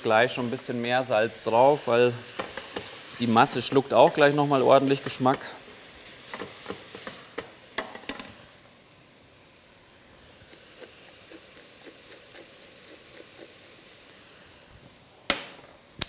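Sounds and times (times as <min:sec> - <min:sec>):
vegetables sizzling in a saucepan: 0:00.0 - 0:16.0.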